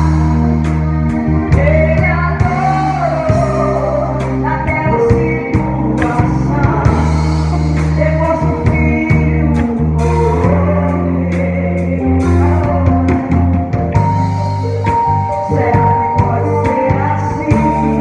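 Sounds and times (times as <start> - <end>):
drum kit beat: 0.0 - 18.0
guitar: 0.0 - 18.0
low sustained notes: 0.0 - 18.0
person singing: 0.0 - 18.0.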